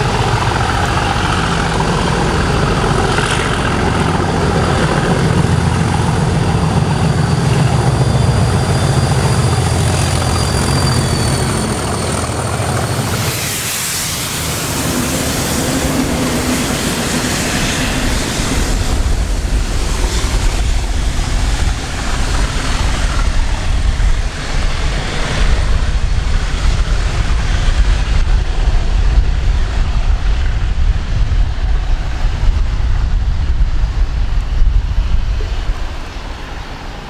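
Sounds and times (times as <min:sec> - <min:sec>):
diesel train engine and wheels: 0:00.0 - 0:37.0
wind buffeting microphone: 0:00.0 - 0:37.0.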